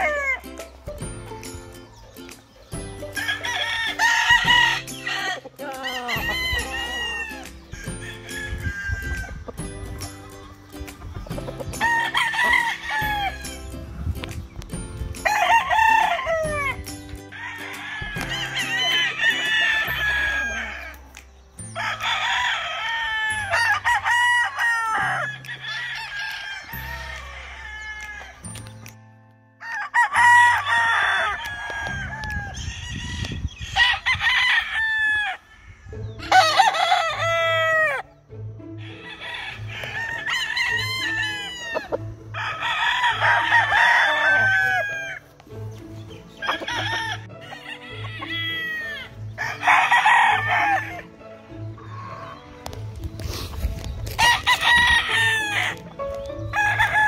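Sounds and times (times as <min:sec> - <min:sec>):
roosters crowing: 0:00.0 - 0:28.7, 0:29.6 - 0:57.0
background music with low beat: 0:00.0 - 0:35.3, 0:35.9 - 0:57.0.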